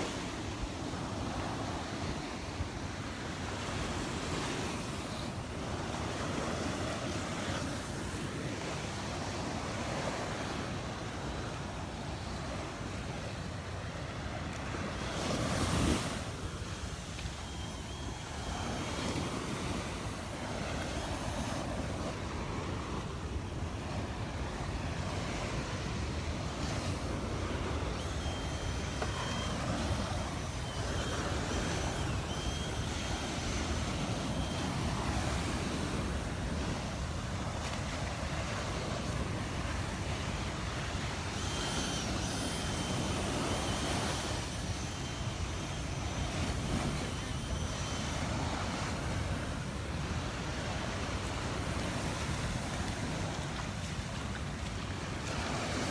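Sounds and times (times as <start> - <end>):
surf washing onto beach: 0.0 - 55.9
wind buffeting microphone: 0.0 - 55.9.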